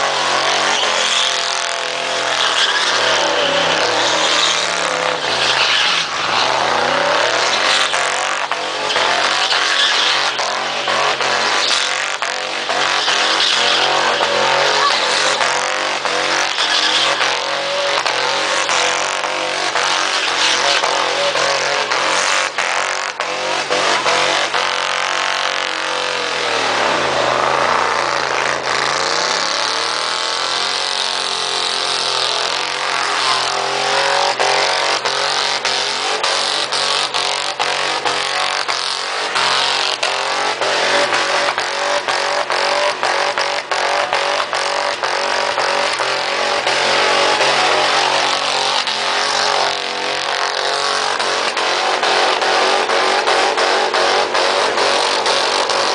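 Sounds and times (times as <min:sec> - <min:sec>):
engine at high revs: 0:00.0 - 0:55.9
spinning tyres hissing: 0:00.0 - 0:55.9.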